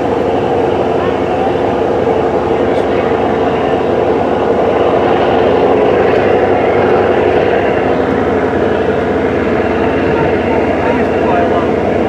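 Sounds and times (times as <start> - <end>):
loud mechanical drone: 0.0 - 12.0.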